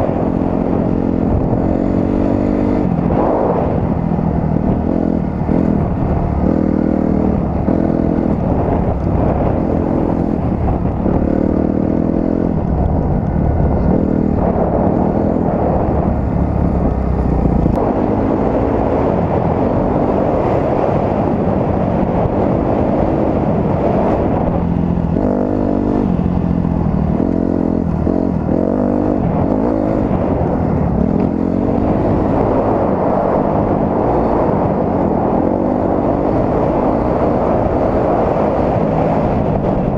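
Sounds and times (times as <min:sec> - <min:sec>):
dirt bike engine revving: 0:00.0 - 0:39.9
wind and terrain rumble: 0:00.0 - 0:39.9.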